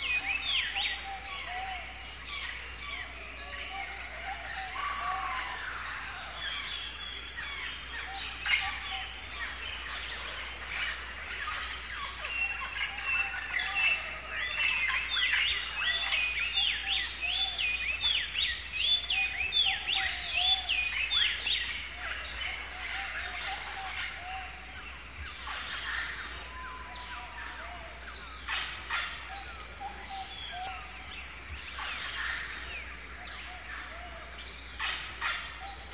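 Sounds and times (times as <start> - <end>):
chorus of birds chirping: 0.0 - 35.9.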